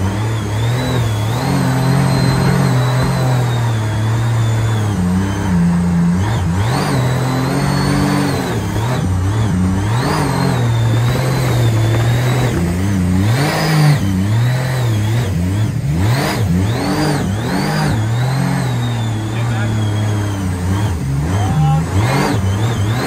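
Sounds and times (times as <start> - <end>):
high whine: 0.0 - 23.0
jet boat engine revving: 0.0 - 23.0.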